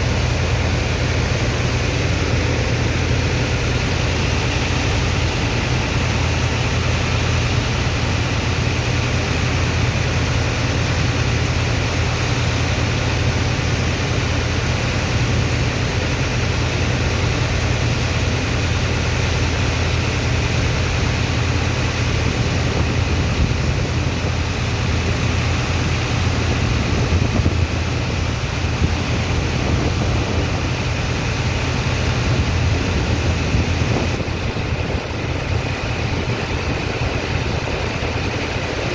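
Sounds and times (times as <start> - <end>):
low engine hum: 0.0 - 38.9
water pump rushing noise: 0.0 - 38.9.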